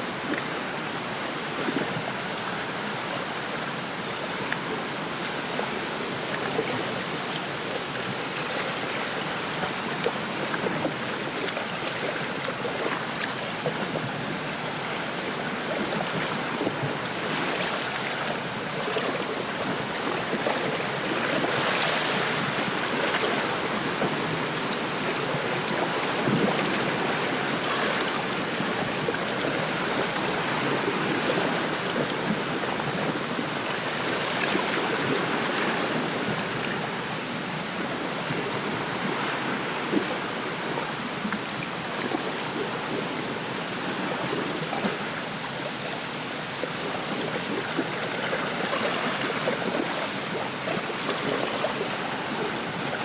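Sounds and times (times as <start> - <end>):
small waves lapping: 0.0 - 53.0.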